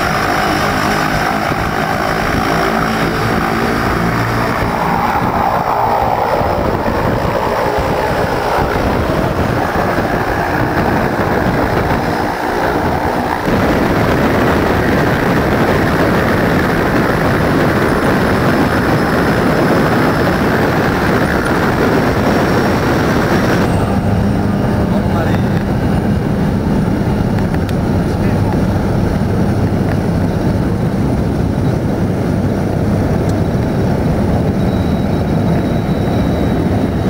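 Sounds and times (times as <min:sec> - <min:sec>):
propeller plane engine running: 0:00.0 - 0:37.0.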